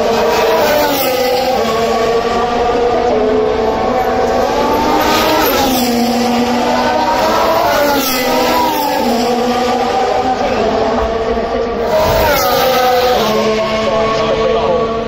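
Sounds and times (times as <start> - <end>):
racing car engines at speed: 0.0 - 15.0.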